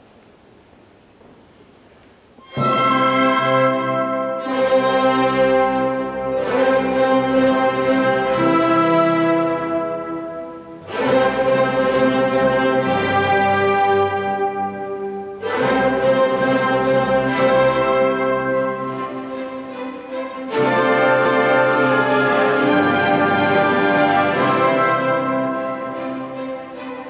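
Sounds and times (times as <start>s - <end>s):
string orchestra sustained chords: 2.4s - 27.0s.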